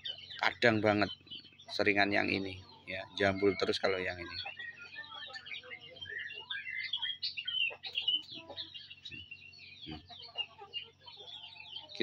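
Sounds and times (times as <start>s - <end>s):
birds chirping and chattering: 0.0s - 12.0s.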